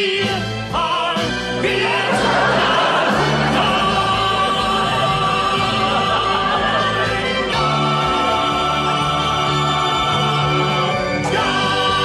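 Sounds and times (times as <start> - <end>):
musical backing: 0.0 - 12.0.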